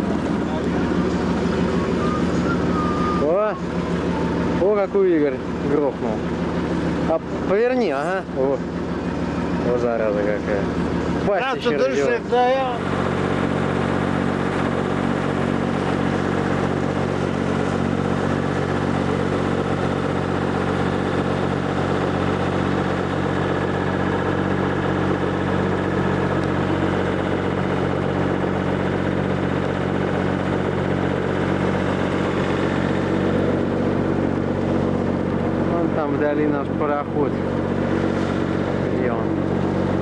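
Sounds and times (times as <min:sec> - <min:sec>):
motorboat engine droning: 0:00.0 - 0:40.0.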